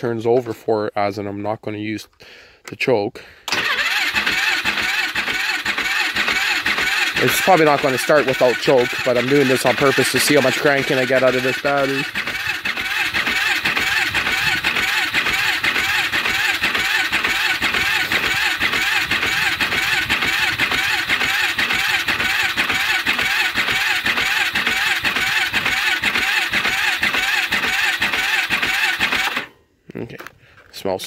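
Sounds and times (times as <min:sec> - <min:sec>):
engine cranking by electric starter: 0:03.4 - 0:29.6.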